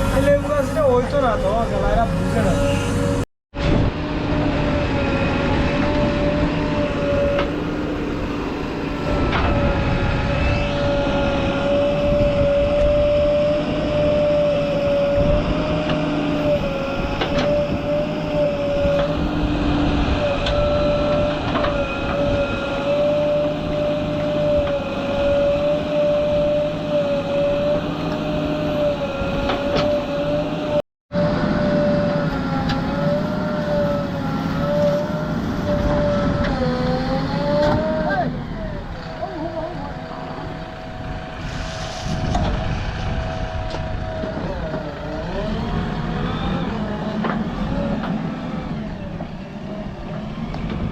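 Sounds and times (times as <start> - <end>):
diesel engine under load: 0.0 - 50.9
wavering whine: 0.0 - 50.9.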